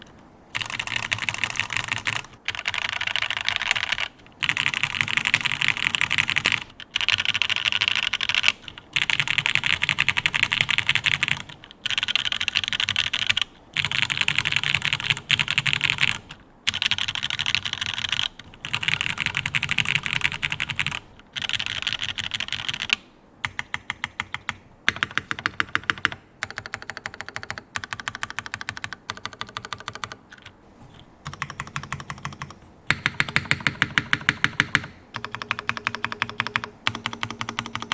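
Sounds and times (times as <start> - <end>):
mechanical keyboard typing: 0.0 - 30.6, 31.2 - 37.9.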